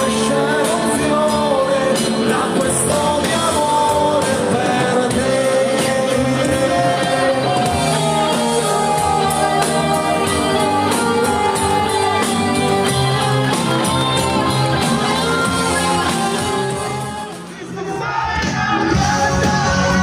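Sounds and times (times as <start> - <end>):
live band playing: 0.0 - 20.0
person singing: 0.0 - 20.0
steady drum beat: 0.0 - 20.0.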